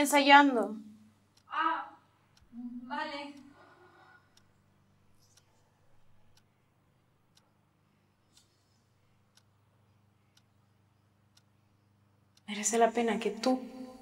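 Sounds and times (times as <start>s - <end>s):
faint clock ticking: 0.0s - 14.0s.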